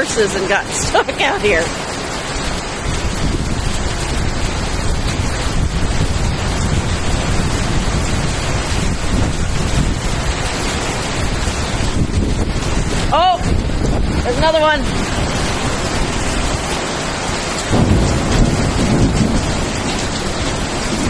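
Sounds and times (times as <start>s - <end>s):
heavy rain pouring: 0.0s - 21.0s
wind buffeting microphone: 0.0s - 21.0s.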